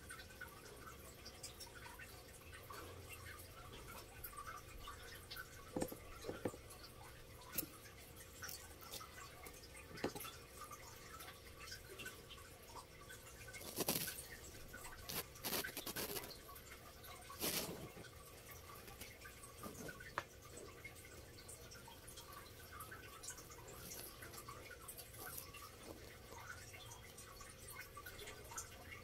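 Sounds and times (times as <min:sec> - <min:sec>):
gecko chewing with wet crunches: 0:00.1 - 0:29.0.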